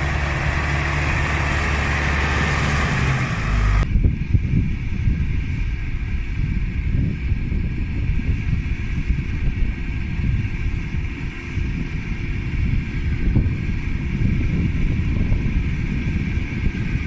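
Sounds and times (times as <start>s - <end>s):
tractor diesel engine rumbling: 0.0s - 17.0s.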